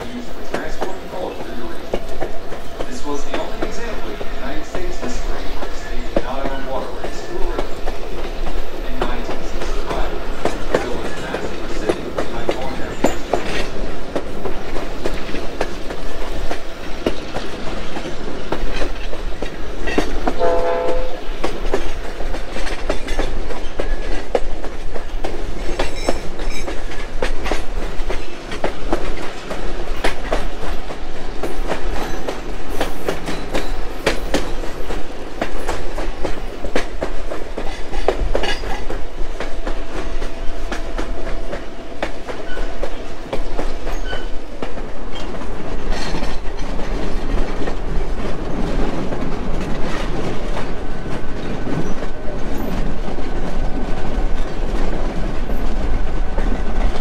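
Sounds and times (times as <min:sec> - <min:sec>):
train rolling rumble: 0:00.0 - 0:57.0
wheels clacking over rail joints: 0:00.0 - 0:57.0.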